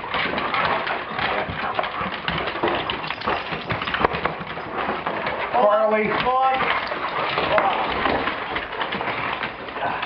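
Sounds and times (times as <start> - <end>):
dog claws scrabbling on hard floor: 0.0 - 9.8.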